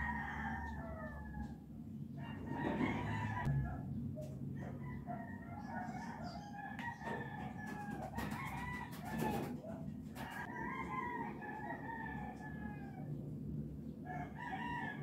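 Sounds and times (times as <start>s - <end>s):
roosters crowing: 0.0s - 13.2s, 14.0s - 15.0s.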